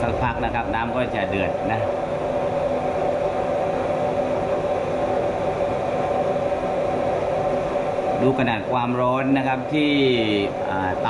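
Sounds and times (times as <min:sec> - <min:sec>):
blower fan humming: 0:00.0 - 0:11.0
rush of forced-air fire: 0:00.0 - 0:11.0.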